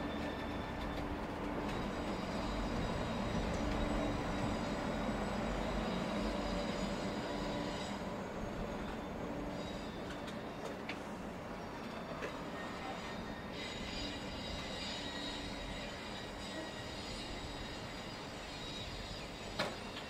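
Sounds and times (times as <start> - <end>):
high wheel squeal: 0.0 - 10.8, 11.6 - 20.0
train wheels rumbling on rails: 0.0 - 20.0.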